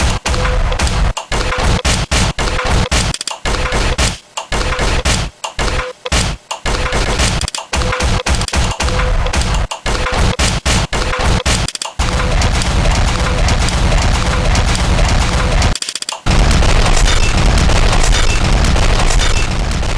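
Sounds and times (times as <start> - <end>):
harsh rattle like rapid shots: 0.0 - 19.9.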